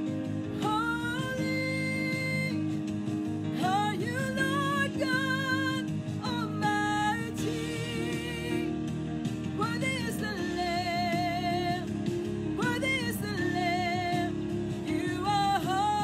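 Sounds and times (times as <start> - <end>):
instrumental accompaniment: 0.0 - 16.0
woman singing worship song: 0.4 - 16.0.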